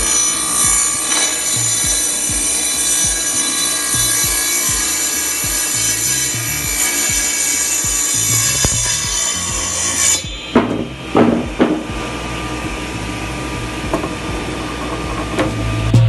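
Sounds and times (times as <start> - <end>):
table saw whining: 0.0 - 16.0.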